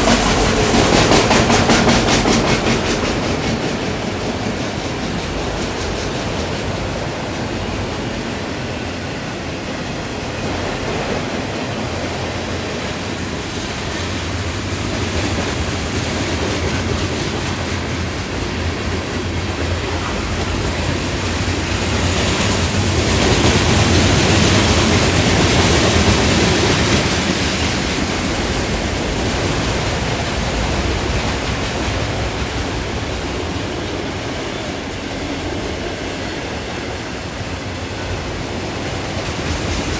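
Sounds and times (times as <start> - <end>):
freight train cars rolling past: 0.0 - 39.9.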